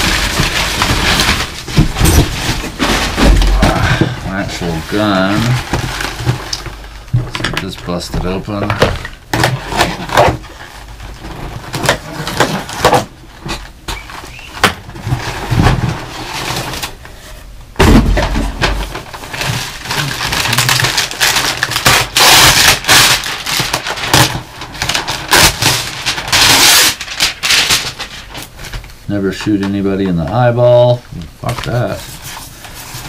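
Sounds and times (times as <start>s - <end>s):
packing crinkling: 0.0s - 17.1s, 18.2s - 33.0s.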